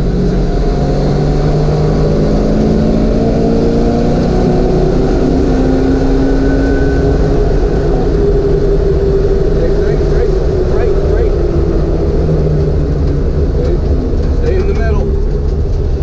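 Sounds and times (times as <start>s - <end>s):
car engine accelerating: 0.0s - 16.0s
wind and road noise: 0.0s - 16.0s.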